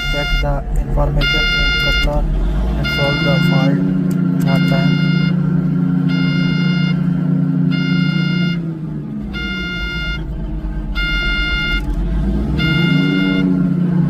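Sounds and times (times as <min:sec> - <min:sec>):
warning beeper: 0:00.0 - 0:13.8
diesel engine running: 0:00.0 - 0:14.0.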